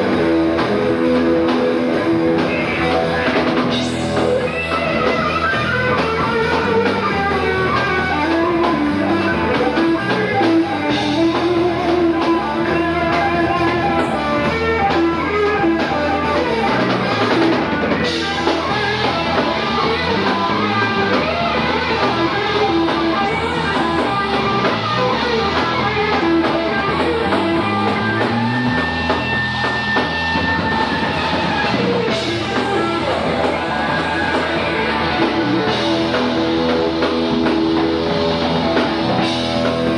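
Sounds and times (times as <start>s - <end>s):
drum kit: 0.0s - 39.9s
electric guitar solo: 0.0s - 39.9s.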